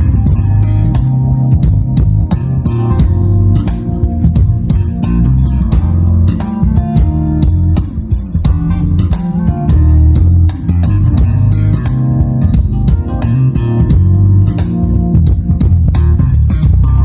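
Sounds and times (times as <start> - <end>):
instrumental music with heavy bass: 0.0 - 17.0.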